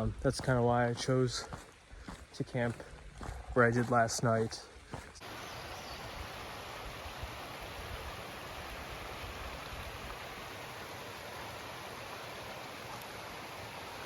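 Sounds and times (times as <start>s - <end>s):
small stream rushing: 0.0s - 14.0s.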